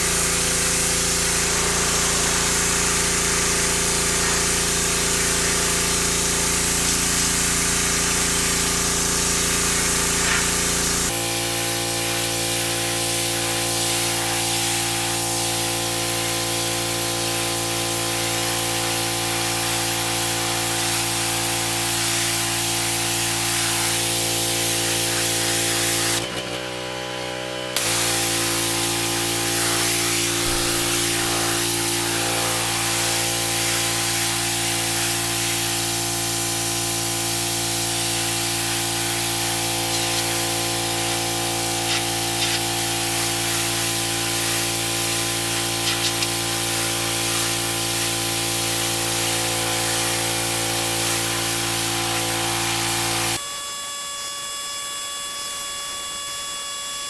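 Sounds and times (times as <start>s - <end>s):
water jet hissing: 0.0s - 26.2s, 27.8s - 53.4s
pressure washer engine running: 0.0s - 53.4s.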